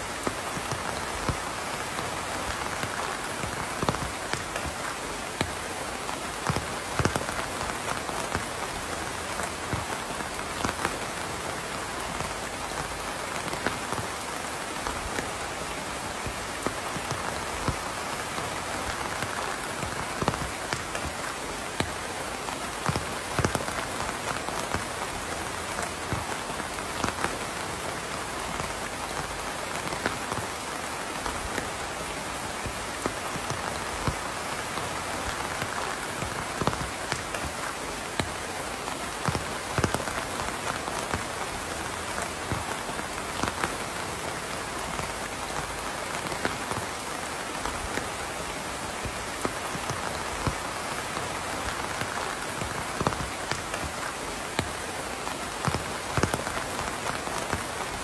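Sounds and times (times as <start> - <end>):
raindrops ticking: 0.0 - 58.0
steady rain hissing: 0.0 - 58.0.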